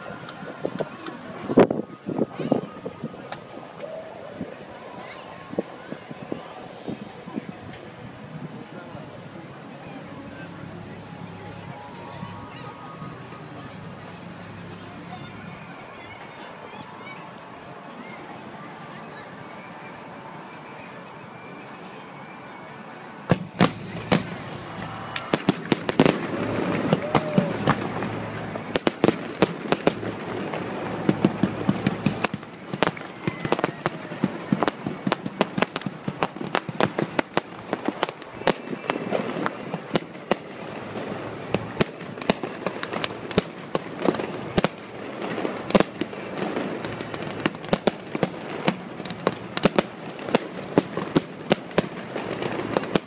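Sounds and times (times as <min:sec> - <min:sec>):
fireworks bangs and crackles: 0:00.0 - 0:17.1, 0:23.2 - 0:53.0
steady rushing noise: 0:00.0 - 0:53.0.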